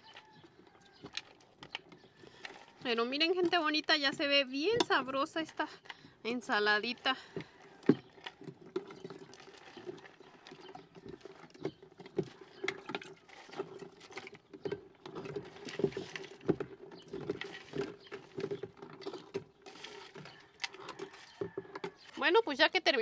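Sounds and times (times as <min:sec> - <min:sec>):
spoon stirring fruit and ice: 0:00.0 - 0:22.9.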